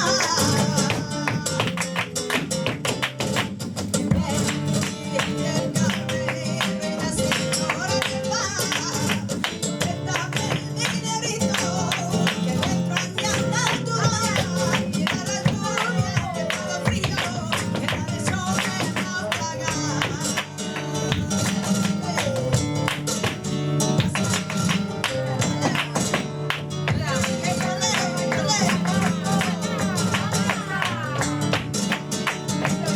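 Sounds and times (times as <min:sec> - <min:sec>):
flamenco guitar playing: 0:00.0 - 0:32.9.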